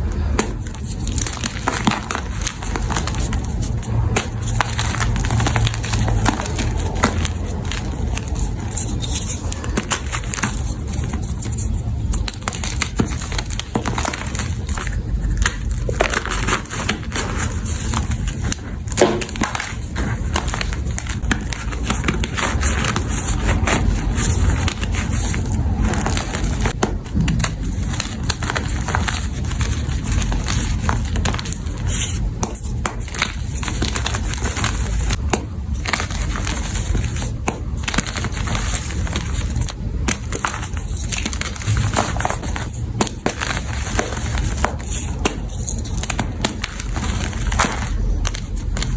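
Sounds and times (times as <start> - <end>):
chalk being crushed: 0.0 - 48.9.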